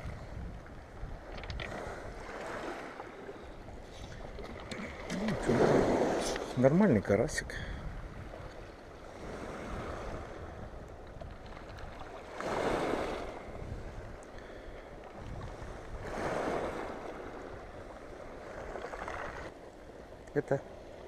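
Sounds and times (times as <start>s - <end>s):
wind buffeting microphone: 0.0s - 14.3s, 14.9s - 19.6s
waves washing on shore: 0.0s - 21.0s.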